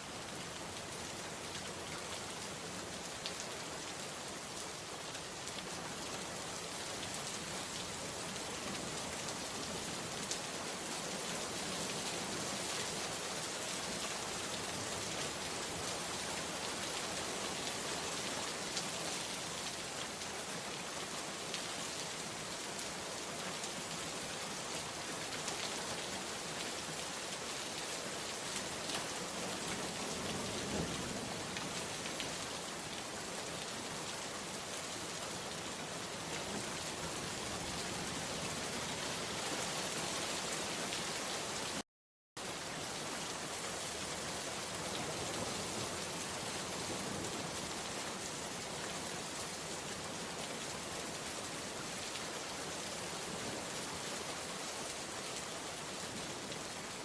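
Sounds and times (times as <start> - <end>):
steady rain falling: 0.0 - 41.8, 42.4 - 57.0.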